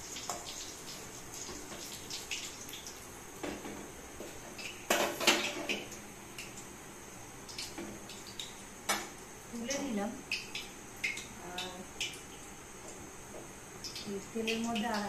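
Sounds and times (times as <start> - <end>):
oil sizzling in a wok: 0.0 - 15.0.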